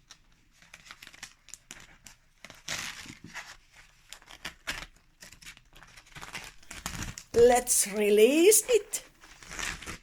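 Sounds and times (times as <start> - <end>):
crinkling and tearing: 0.0 - 7.4, 9.1 - 10.0.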